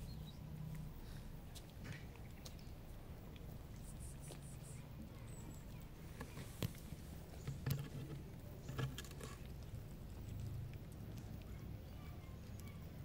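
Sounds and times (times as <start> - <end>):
cats crunching dry food: 0.7 - 13.0.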